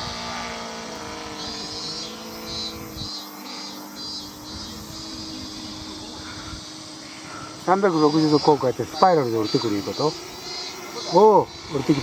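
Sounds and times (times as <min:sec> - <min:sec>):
model airplane motor whine: 0:00.0 - 0:12.0
pulsing insect buzz: 0:00.0 - 0:12.0.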